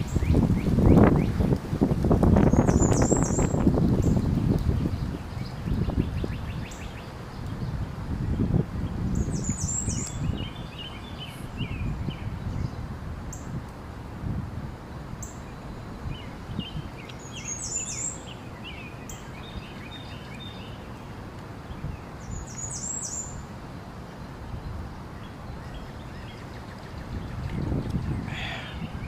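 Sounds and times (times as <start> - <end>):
birds chirping: 0.0 - 1.6, 2.3 - 13.5, 15.2 - 29.0.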